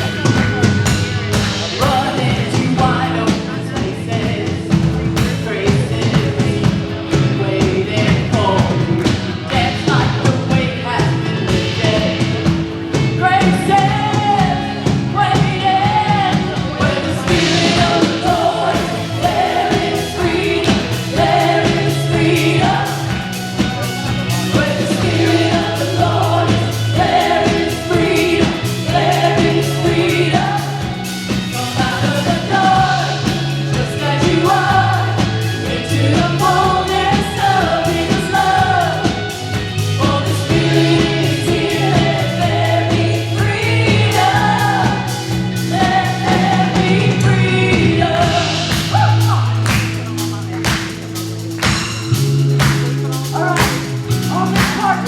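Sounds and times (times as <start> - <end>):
people singing: 0.0 - 55.0
worship band playing: 0.0 - 55.0.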